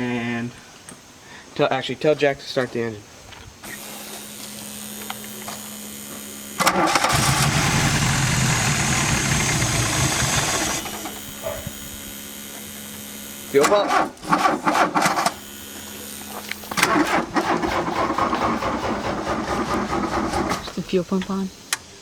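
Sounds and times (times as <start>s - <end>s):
steady low hum: 0.0s - 22.0s
car starter cranking engine: 3.6s - 22.0s.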